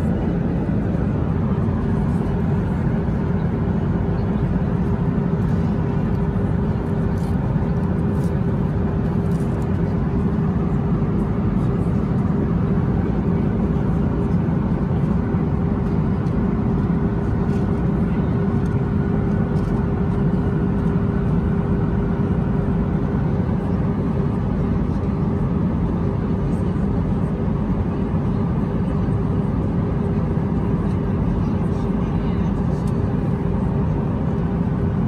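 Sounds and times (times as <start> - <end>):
airplane cabin engine noise: 0.0 - 35.0.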